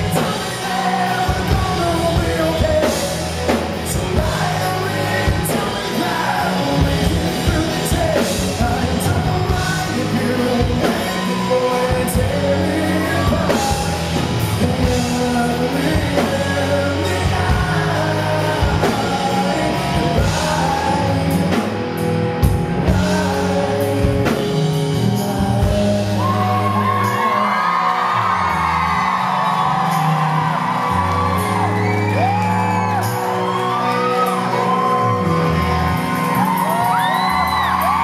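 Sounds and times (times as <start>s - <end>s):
audience screaming and whooping: 0.0s - 21.3s, 26.0s - 38.0s
rock band closing chords: 0.0s - 38.0s.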